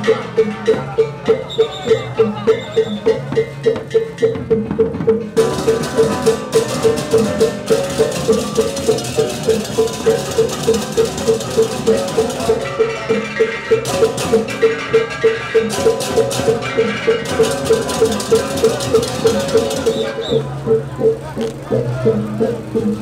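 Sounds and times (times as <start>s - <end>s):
drums: 0.0s - 23.0s.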